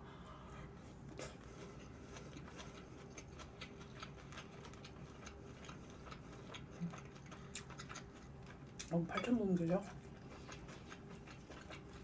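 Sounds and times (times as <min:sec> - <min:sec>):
chewing and mouth noises: 0:00.8 - 0:12.0.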